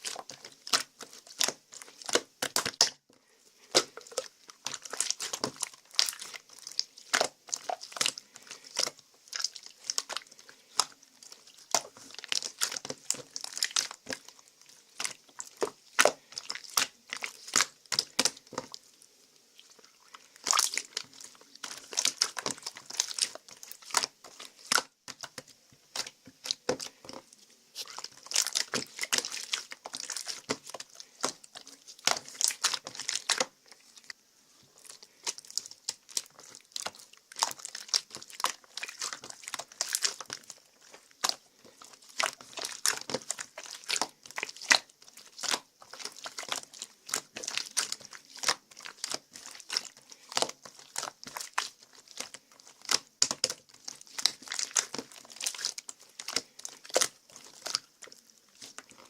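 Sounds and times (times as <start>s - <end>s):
crinkling and crackling: 0.0s - 59.0s.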